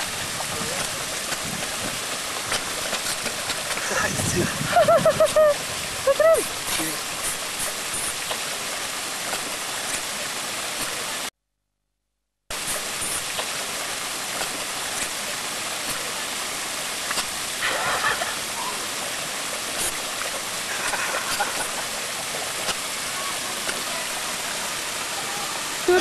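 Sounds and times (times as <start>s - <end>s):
sea water rushing: 0.0s - 11.3s, 12.5s - 26.0s.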